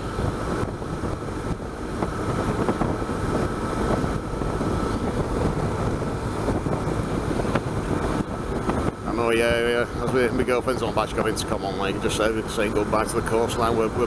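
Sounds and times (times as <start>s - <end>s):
motorcycle running at speed: 0.0s - 14.0s
wind rushing over microphone: 0.0s - 14.0s.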